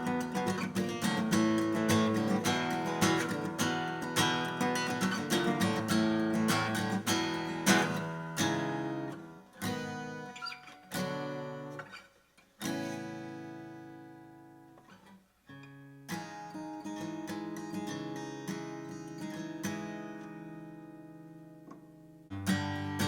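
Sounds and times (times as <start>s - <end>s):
acoustic guitar strummed: 0.0s - 23.0s.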